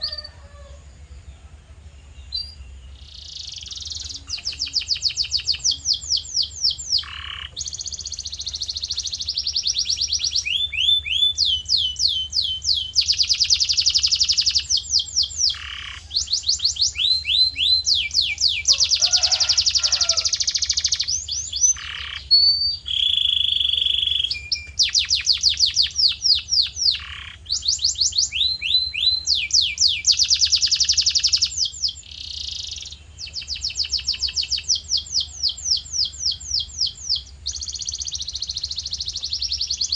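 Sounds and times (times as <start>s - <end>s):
canary singing trills: 0.0s - 39.9s
faint low hum: 0.0s - 39.9s.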